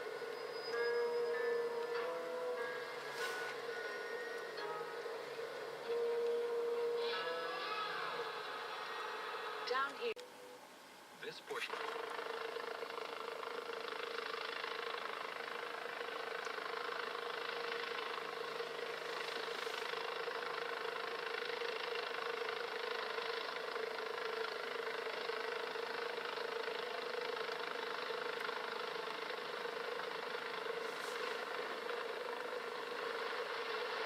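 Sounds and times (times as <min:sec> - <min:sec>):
helicopter engine and rotor drone: 0:00.0 - 0:34.0.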